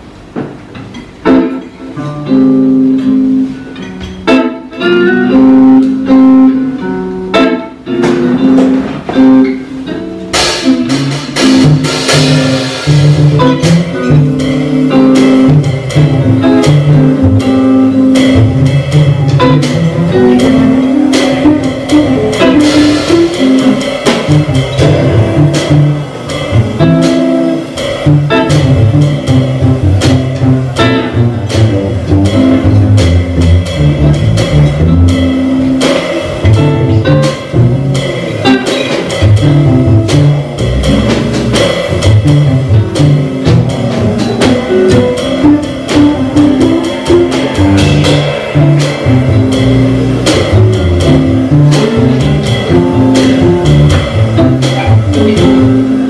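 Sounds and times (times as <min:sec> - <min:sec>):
drum and cymbal strikes: 0:00.0 - 0:56.0
plucked double bass: 0:00.0 - 0:56.0
electric jazz guitar blues: 0:00.1 - 0:56.0.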